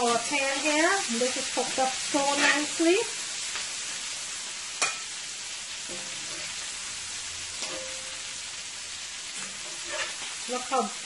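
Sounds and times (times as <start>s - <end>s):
shrimp sizzling in a skillet: 0.0s - 11.0s.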